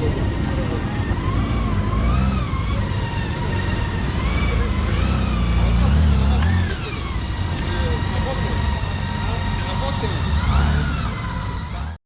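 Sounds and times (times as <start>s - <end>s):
vehicle engine running: 0.0s - 12.0s
wavering siren-like tone: 0.0s - 12.0s.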